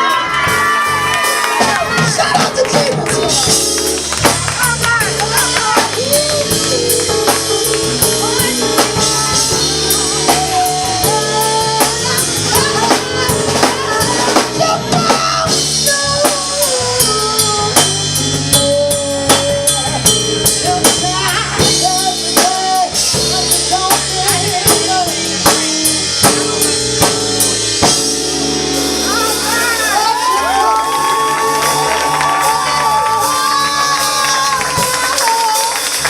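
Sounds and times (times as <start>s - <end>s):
bass line: 0.0s - 36.0s
drum kit beat: 0.0s - 36.0s.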